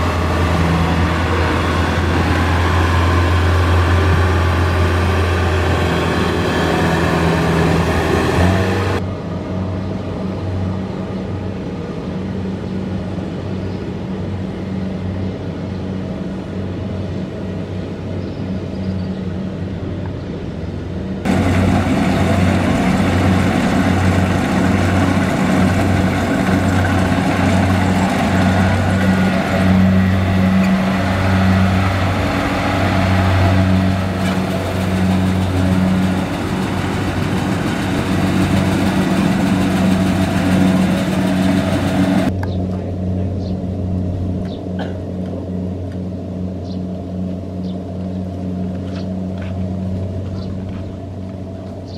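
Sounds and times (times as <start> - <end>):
combine harvester diesel engine: 0.0 - 11.9, 21.2 - 51.9.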